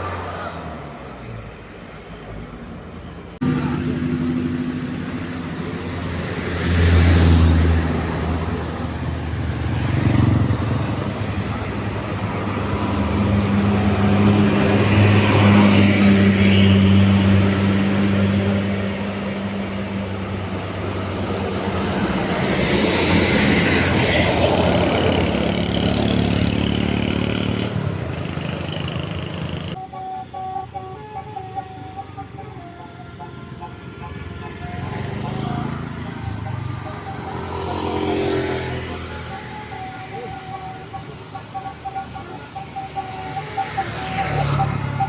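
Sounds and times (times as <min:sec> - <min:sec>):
heavy vehicles driving uphill: 0:00.0 - 0:45.0.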